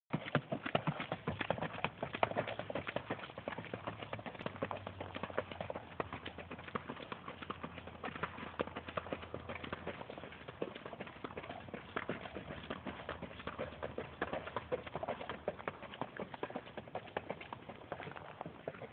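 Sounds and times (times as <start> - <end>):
horse hoofbeats on dirt: 0.1 - 18.9.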